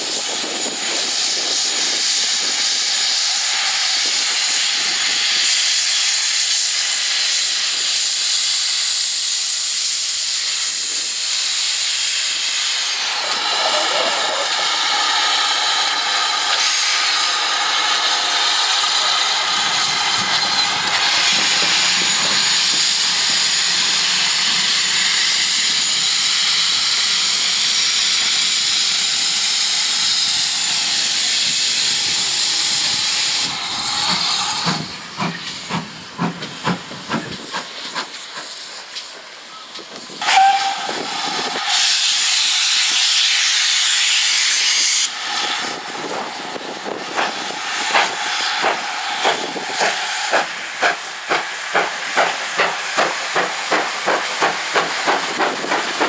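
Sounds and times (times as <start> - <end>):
steam hissing from locomotive: 0.0 - 56.0.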